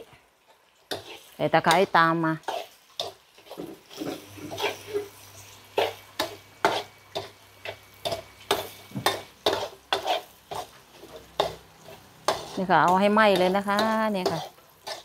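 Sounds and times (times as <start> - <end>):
faint sizzle: 0.0 - 15.0
metal spatula scraping wok: 0.8 - 15.0.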